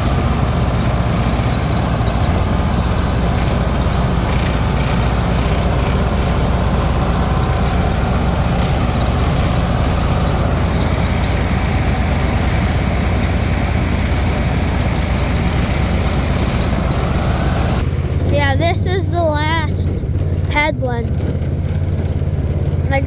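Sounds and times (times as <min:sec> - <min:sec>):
tractor engine droning: 0:00.0 - 0:23.0.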